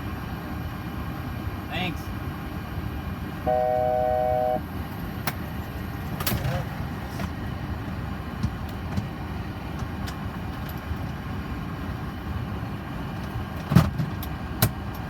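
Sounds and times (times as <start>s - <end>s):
low rumble of cockpit: 0.1s - 15.0s.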